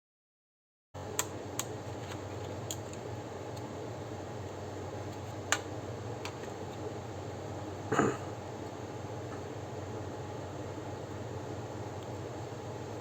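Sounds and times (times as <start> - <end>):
steady low hum: 1.0 - 13.0.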